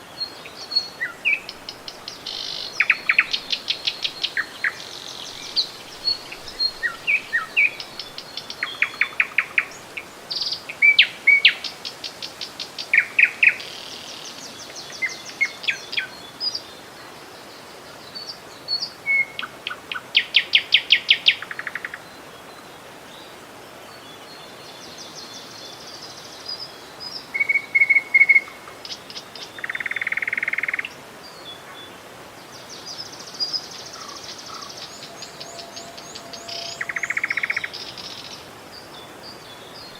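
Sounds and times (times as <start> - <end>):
songbirds singing and trilling: 0.0 - 16.8, 23.9 - 39.9
flowing river water: 0.0 - 39.9.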